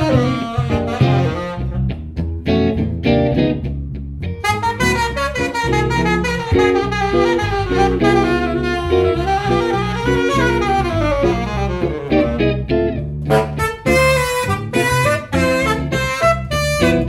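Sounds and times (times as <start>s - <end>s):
tenor saxophone solo: 0.0s - 2.1s, 4.4s - 12.7s, 13.3s - 17.0s
electric bass: 0.0s - 17.0s
electric guitar: 0.0s - 17.0s.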